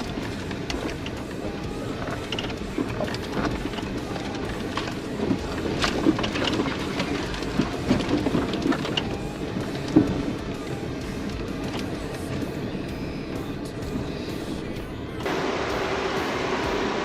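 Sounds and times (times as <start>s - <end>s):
vehicle rattling: 0.0s - 17.0s
vehicle rumbling on dirt trail: 0.0s - 17.0s.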